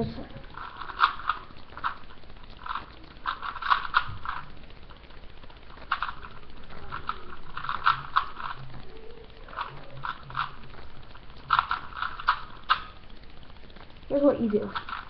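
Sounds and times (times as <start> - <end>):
plastic puzzle cube layers clicking: 0.0 - 15.0.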